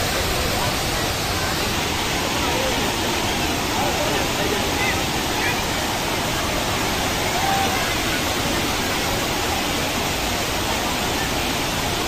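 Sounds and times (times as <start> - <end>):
faint voices: 0.0 - 12.0
waterfall rushing: 0.0 - 12.0.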